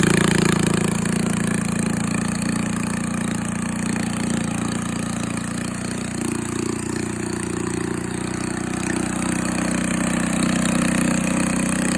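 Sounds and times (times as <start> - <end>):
small generator engine running: 0.0 - 11.9.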